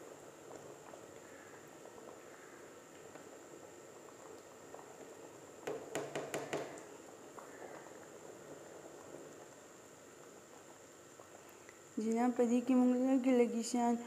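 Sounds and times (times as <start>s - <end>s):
pot bubbling on the boil: 0.0s - 14.0s.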